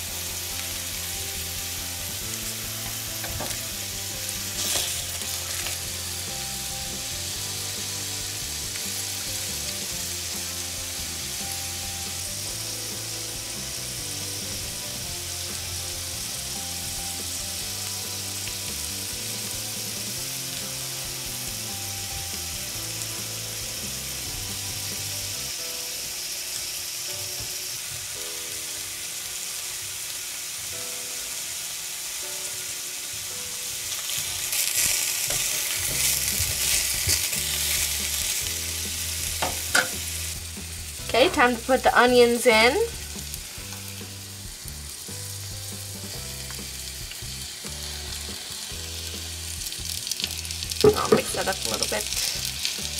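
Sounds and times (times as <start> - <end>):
mushrooms sizzling in a pan: 0.0 - 52.9
soft background music: 0.0 - 52.9.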